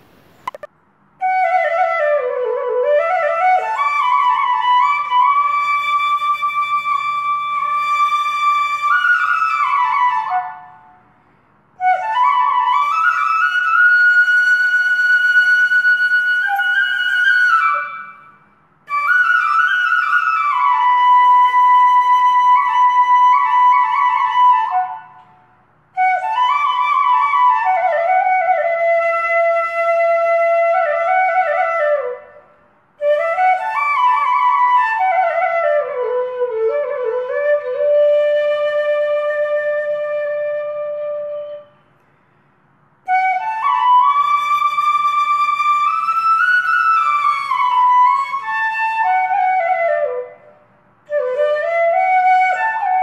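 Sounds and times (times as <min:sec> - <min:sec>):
solo flute slow melody: 0:00.4 - 0:11.1, 0:11.8 - 0:42.0, 0:43.0 - 0:53.0.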